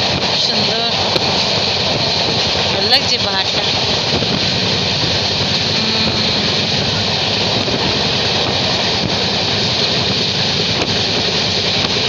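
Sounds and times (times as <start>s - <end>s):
train carriage running on rails: 0.0s - 12.0s
wind across microphone: 0.0s - 12.0s.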